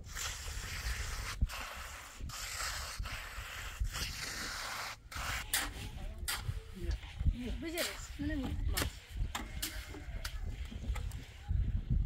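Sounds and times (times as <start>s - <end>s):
rough scraping strokes: 0.0s - 11.6s.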